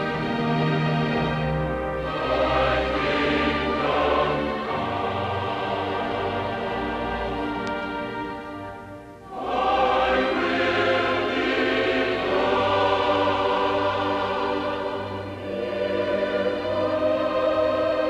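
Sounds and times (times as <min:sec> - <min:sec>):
choir singing with music: 0:00.0 - 0:18.0.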